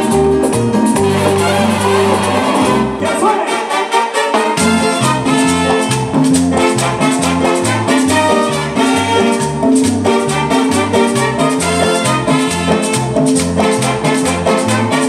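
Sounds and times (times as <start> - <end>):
repeating bass line: 0.0 - 3.2, 4.6 - 15.0
salsa band playing: 0.0 - 15.0.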